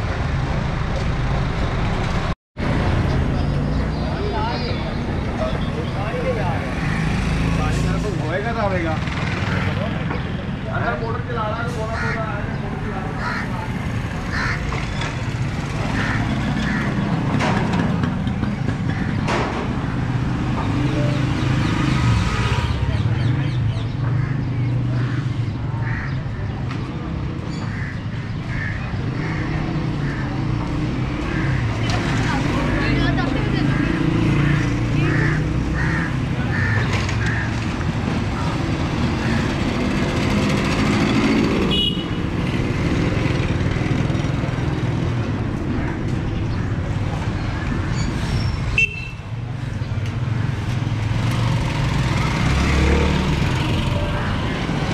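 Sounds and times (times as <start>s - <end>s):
road traffic: 0.0s - 54.9s
vehicle engines rumbling: 0.0s - 54.9s.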